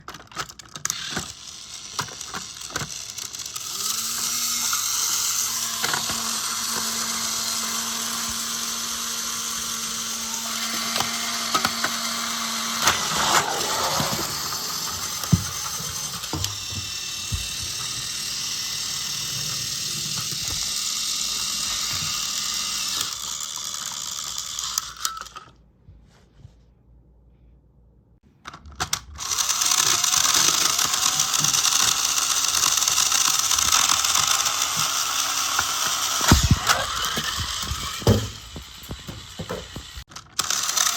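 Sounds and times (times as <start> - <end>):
toy trains whirring and clattering: 0.0 - 25.6, 28.4 - 40.9.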